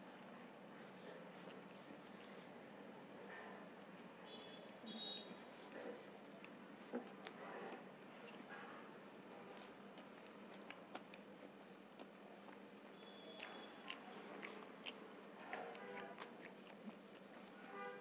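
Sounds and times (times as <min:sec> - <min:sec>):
close chewing with mouth clicks: 0:00.2 - 0:04.8, 0:05.7 - 0:08.5, 0:09.4 - 0:17.6.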